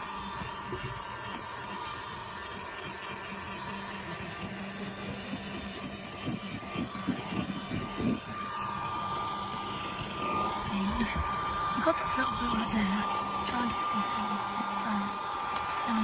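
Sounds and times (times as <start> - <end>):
small vacuum cleaner running: 0.0 - 16.0.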